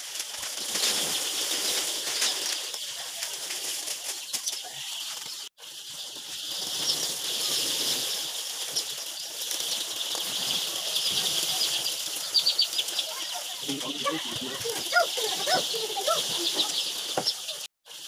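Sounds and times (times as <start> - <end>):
hens clucking: 0.8 - 17.7.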